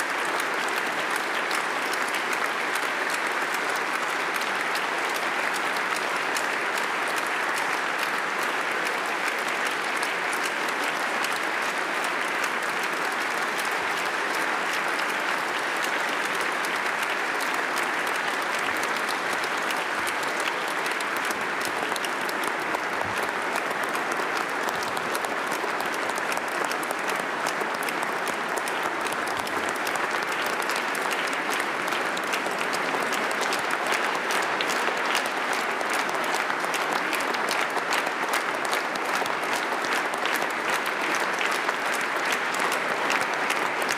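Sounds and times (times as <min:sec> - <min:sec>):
audience applause: 0:00.0 - 0:43.9.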